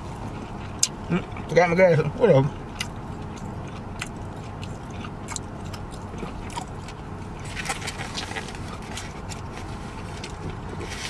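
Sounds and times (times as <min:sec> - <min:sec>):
man chewing with smacking: 0:00.0 - 0:11.0
steady low hum: 0:00.0 - 0:11.0.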